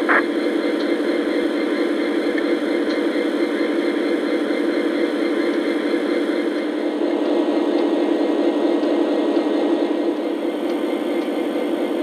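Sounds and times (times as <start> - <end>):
model train diesel engine drone: 0.0 - 12.0.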